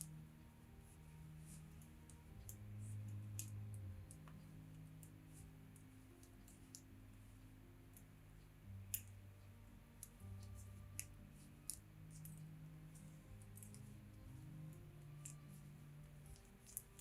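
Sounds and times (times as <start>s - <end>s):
knitting needles clicking: 0.8s - 7.3s, 7.9s - 9.2s, 10.0s - 17.0s.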